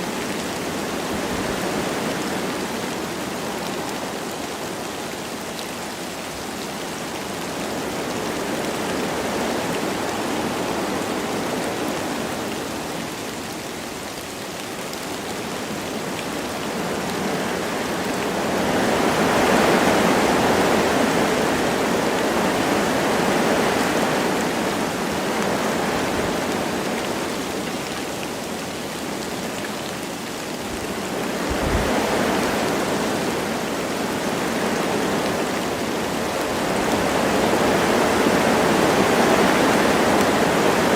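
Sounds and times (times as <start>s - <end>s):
light rain: 0.0s - 40.9s
wind rushing through trees: 0.0s - 40.9s.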